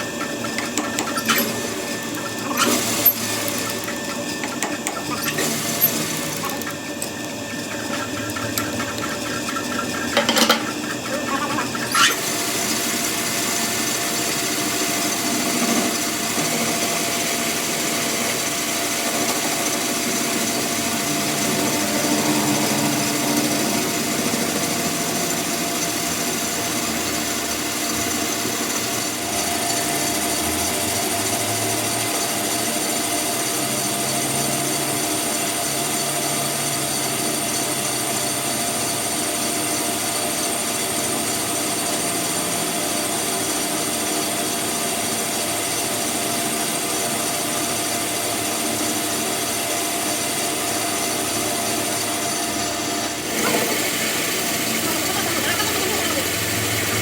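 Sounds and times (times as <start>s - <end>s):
power tool running: 0.0s - 57.0s.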